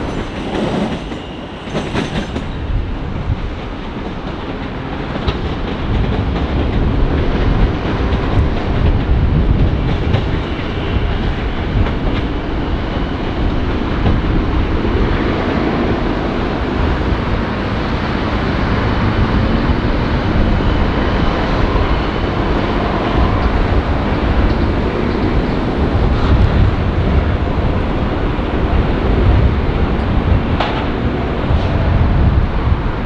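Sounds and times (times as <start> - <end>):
train rumbling along track: 0.0 - 33.0.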